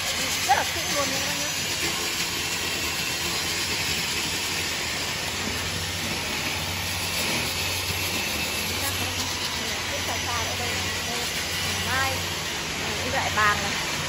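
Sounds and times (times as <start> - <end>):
workshop machinery droning: 0.0 - 14.0.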